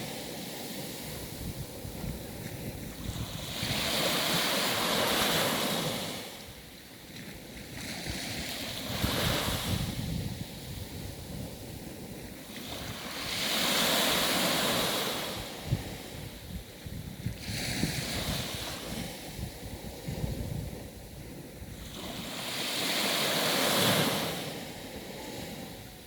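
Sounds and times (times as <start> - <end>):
sea waves surging: 0.0 - 26.0.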